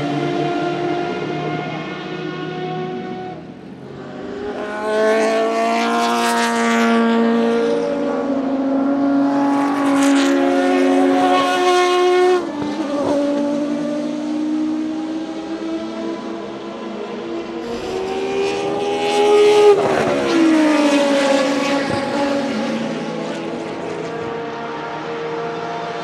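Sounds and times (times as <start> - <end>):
race car engines passing by: 0.0 - 26.0.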